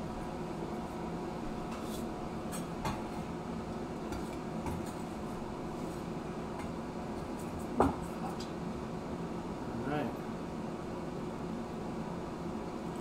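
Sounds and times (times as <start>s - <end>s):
fan hum: 0.0s - 13.0s.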